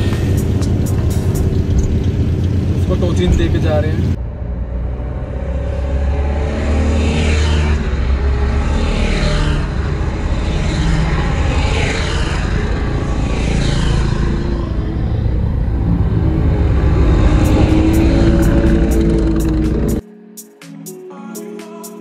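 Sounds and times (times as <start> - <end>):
rhythmic swish: 0.0 - 3.8, 7.1 - 22.0
vehicle engine and road rumble: 0.0 - 20.0.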